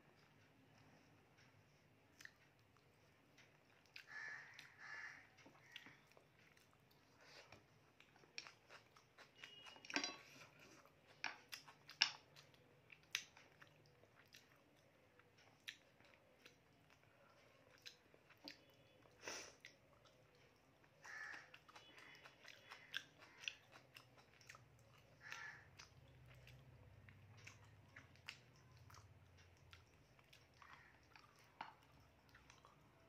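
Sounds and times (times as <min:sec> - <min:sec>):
soft chewing: 0:00.0 - 0:33.0.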